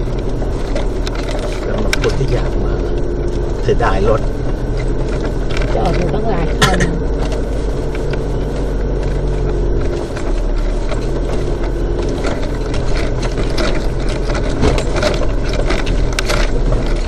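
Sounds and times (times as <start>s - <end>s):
knocks and rattles: 0.0s - 17.0s
vehicle engine at low speed: 0.0s - 17.0s.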